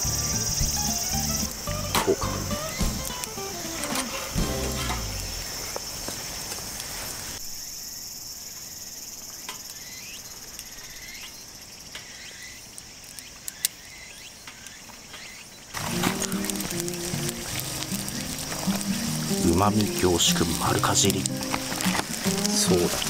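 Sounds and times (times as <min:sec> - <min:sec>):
insects chirring: 0:00.0 - 0:23.0
wood fire crackling: 0:00.0 - 0:23.0.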